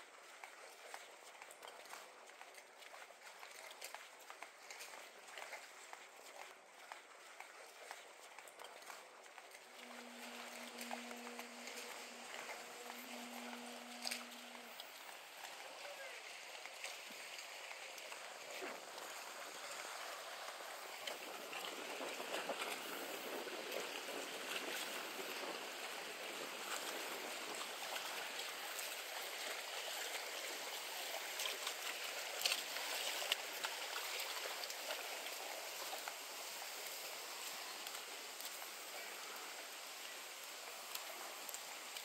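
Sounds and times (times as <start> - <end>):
lagoon water: 0.0 - 42.0.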